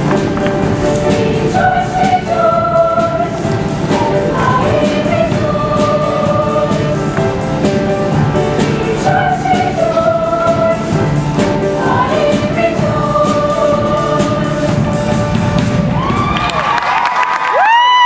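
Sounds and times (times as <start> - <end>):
choir singing in parts: 0.0 - 15.7
pop band backing track: 0.0 - 16.7.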